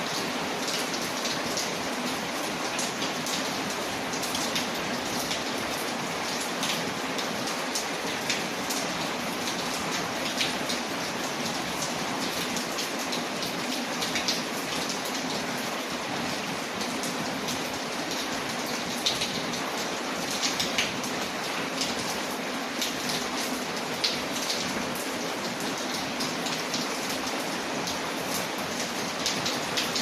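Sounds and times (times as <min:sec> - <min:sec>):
rain on a window: 0:00.0 - 0:30.0.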